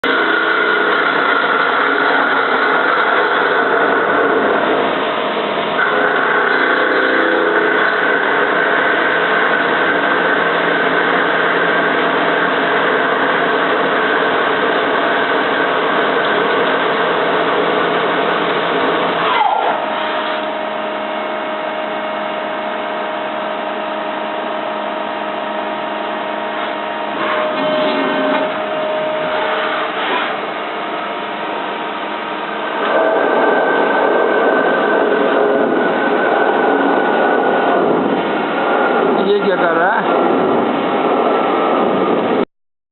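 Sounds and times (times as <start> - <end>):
lathe machine whir: 0.0 - 42.4
metal cutting noise: 0.0 - 42.4
whine dropping in pitch: 0.0 - 42.4
steady machine hum: 0.0 - 42.5.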